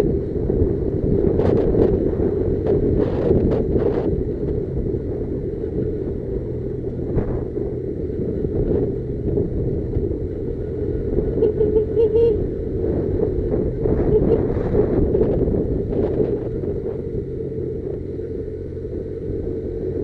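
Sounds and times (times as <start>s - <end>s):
motorcycle engine rumbling: 0.0s - 20.0s
wind buffeting microphone: 0.0s - 20.0s.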